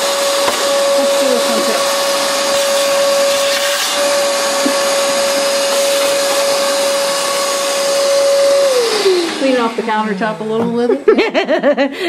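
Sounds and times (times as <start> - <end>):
shop vac running: 0.0 - 11.6.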